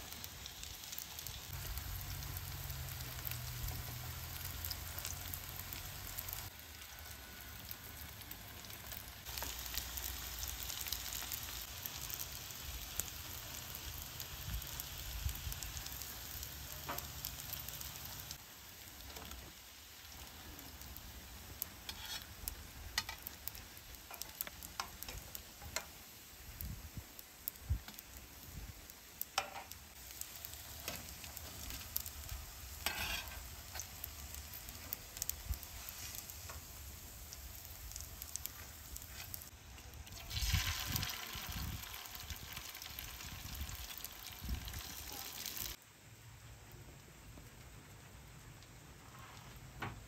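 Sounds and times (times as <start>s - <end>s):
pastries sizzling in a pan: 0.0s - 45.8s.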